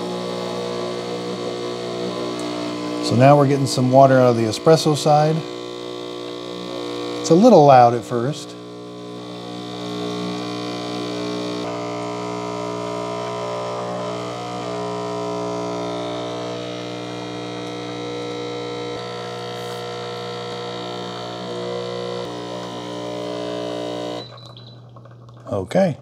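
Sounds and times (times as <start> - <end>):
espresso machine pump humming: 0.0 - 25.4.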